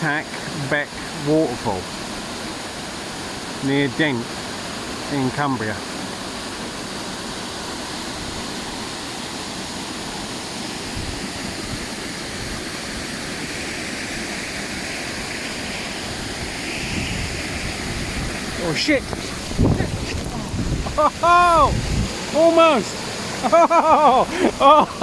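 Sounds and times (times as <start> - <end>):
water rushing through rock channel: 0.0 - 25.0.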